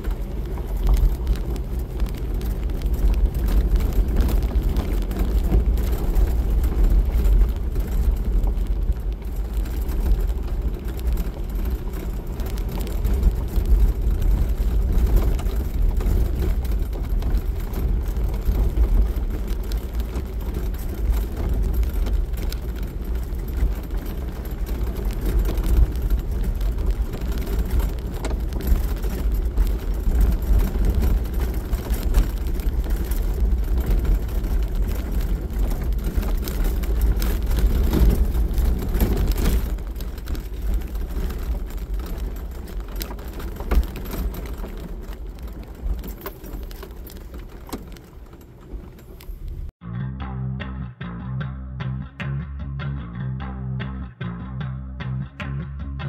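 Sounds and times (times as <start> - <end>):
tyres on gravel: 0.0 - 49.8
engine rumble: 0.0 - 56.0.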